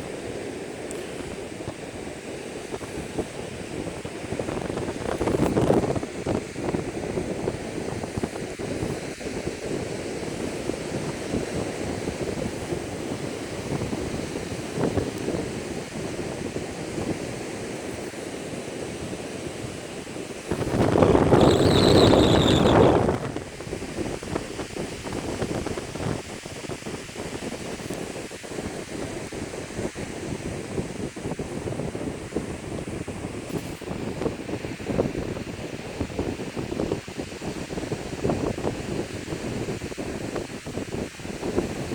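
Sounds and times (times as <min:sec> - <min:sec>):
strong wind buffeting microphone: 0:00.0 - 0:41.9.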